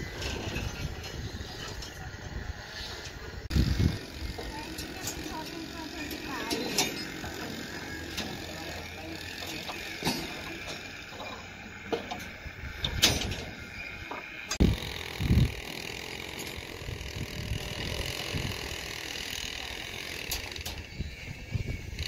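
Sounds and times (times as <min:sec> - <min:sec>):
construction site noise: 0:00.0 - 0:22.0.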